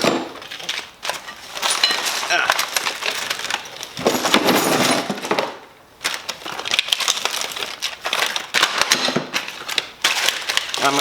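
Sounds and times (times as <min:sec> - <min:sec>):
packaging crinkling: 0:00.0 - 0:04.2, 0:06.0 - 0:11.0.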